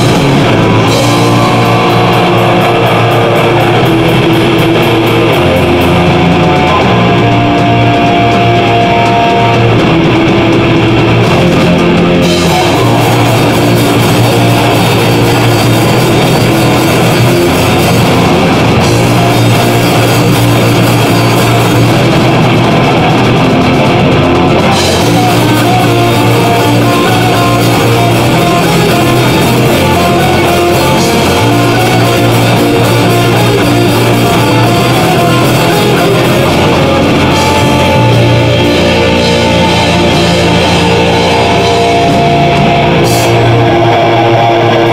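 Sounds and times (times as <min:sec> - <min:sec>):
bass guitar: 0:00.0 - 0:44.9
distorted electric guitars: 0:00.0 - 0:44.9
drum kit: 0:00.0 - 0:44.9.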